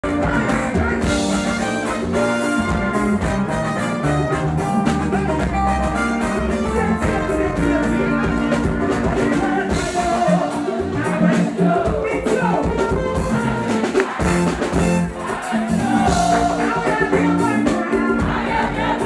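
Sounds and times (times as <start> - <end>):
horns: 0.0 - 19.0
live band playing gospel music: 0.0 - 19.0.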